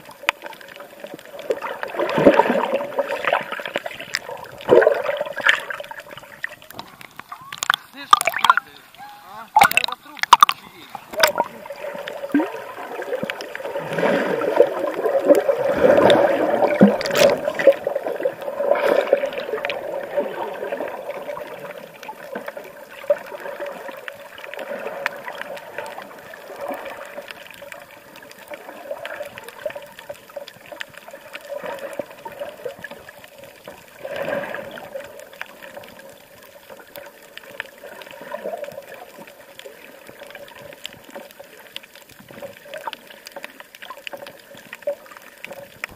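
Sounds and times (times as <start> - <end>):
muffled underwater gurgling: 0.0 - 45.9.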